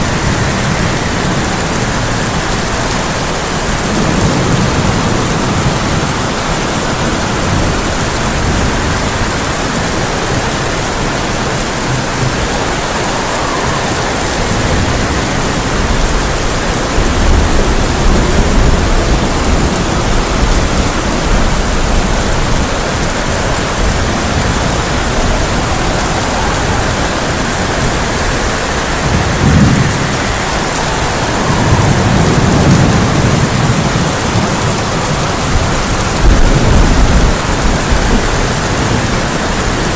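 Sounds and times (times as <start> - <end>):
heavy rain on a tin roof: 0.0 - 39.9
thunder rumbling: 0.0 - 39.9.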